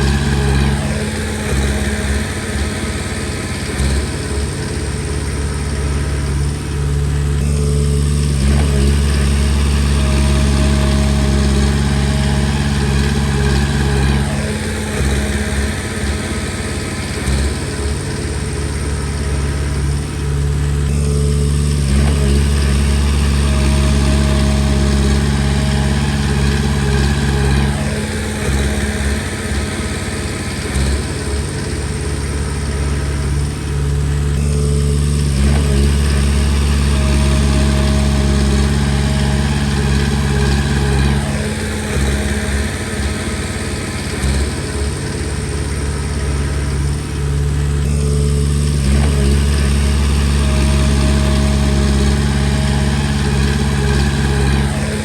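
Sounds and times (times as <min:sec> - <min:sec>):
bulldozer diesel engine working: 0:00.0 - 0:55.0.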